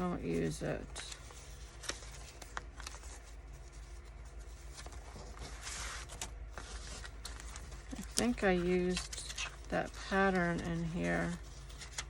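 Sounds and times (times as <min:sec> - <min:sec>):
low steady hum: 0:00.0 - 0:12.0
paper rustling: 0:00.0 - 0:12.0.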